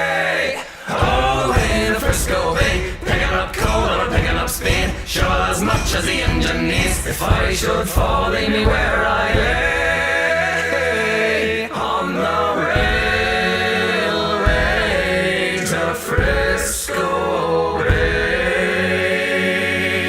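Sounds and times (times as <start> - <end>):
choir singing held notes: 0.0 - 20.0
struck beat: 0.9 - 19.3.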